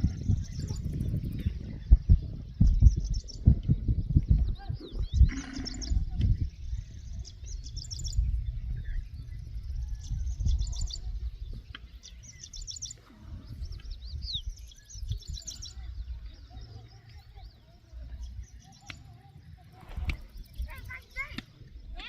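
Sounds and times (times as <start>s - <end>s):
small birds singing: 0.0s - 22.0s
steady low rumble: 0.0s - 22.0s.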